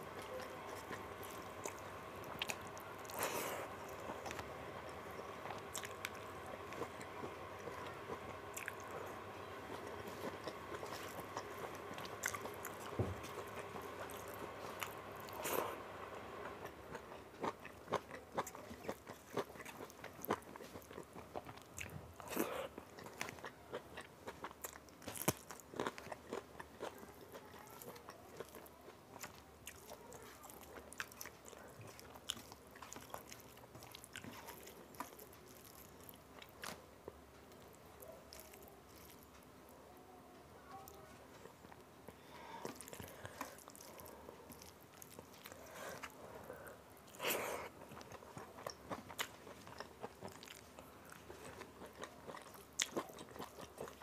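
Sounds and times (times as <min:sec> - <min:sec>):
chewing: 0:00.0 - 0:54.0.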